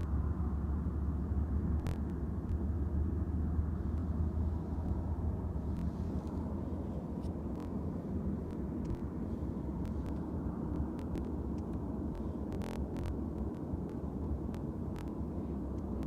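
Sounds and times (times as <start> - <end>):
deep continuous hum: 0.0 - 16.0.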